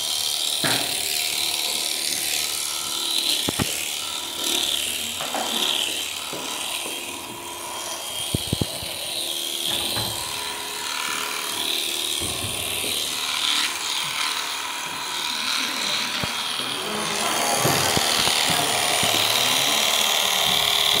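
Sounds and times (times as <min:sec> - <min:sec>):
electric shears buzzing: 0:00.0 - 0:21.0.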